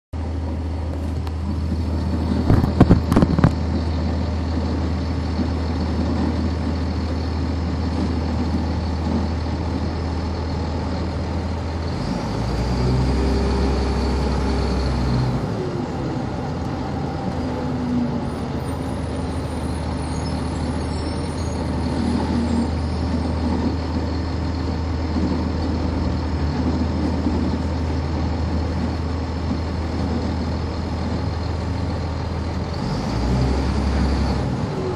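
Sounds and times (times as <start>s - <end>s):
bus diesel engine running: 0.2s - 34.9s.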